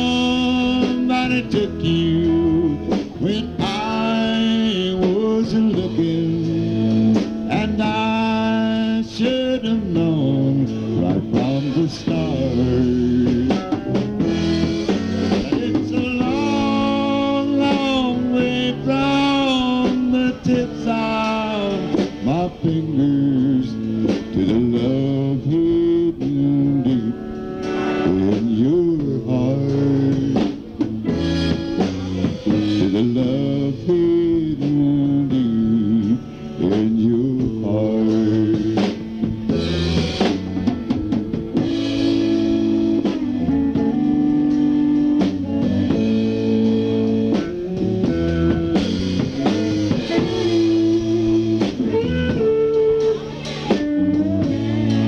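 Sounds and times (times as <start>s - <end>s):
person singing: 0.0s - 40.7s, 41.6s - 55.0s
drums: 0.0s - 55.0s
guitar: 0.0s - 55.0s
live country band playing: 0.0s - 55.0s.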